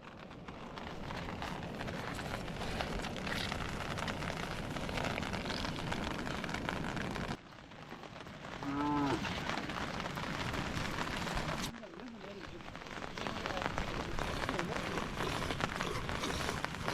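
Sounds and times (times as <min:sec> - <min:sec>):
rain falling steadily: 0:00.0 - 0:16.9.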